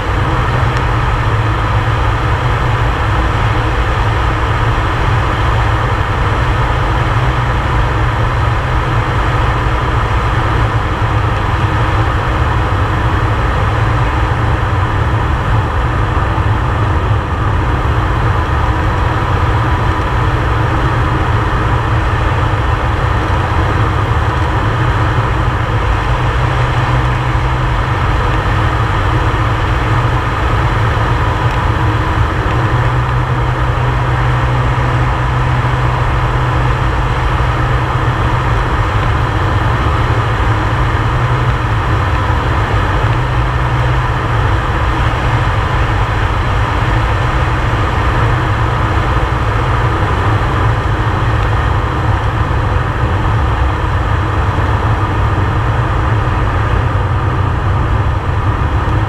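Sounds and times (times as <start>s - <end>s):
thin engine whine: 0.0s - 59.0s
turboprop engine drone in cockpit: 0.0s - 59.0s.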